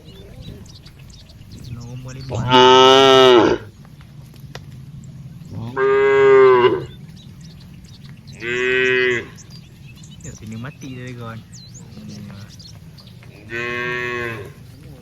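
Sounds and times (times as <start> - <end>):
cattle mooing: 1.6 - 15.0.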